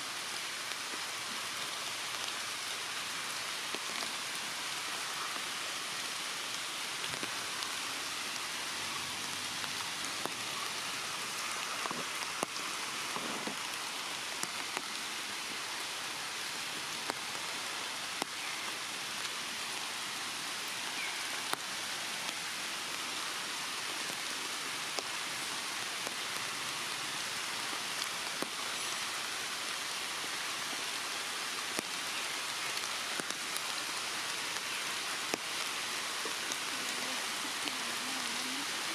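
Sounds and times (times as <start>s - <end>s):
raindrops ticking close by: 0.0s - 38.9s
steady rain in trees: 0.0s - 38.9s.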